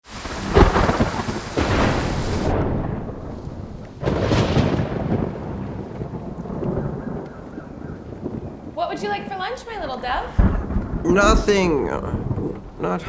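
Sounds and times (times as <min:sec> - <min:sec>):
rain: 0:00.0 - 0:13.0
thunder rumbling and cracking: 0:00.0 - 0:13.0.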